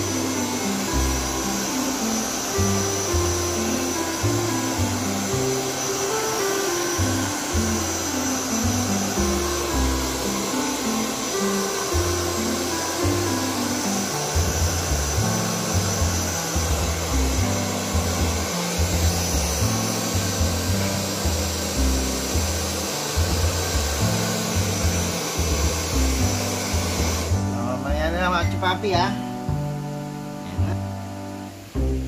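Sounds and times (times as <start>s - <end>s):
background music with bass: 0.0s - 32.0s
hair dryer blowing: 0.0s - 32.0s.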